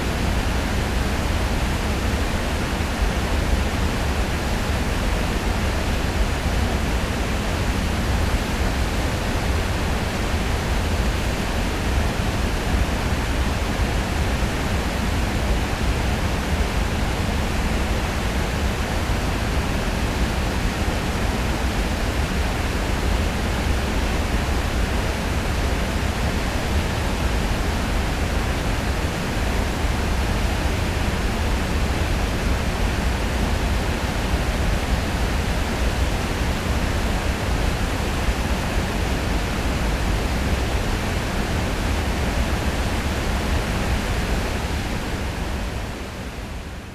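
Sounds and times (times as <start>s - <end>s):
water rushing over a weir: 0.0s - 46.9s.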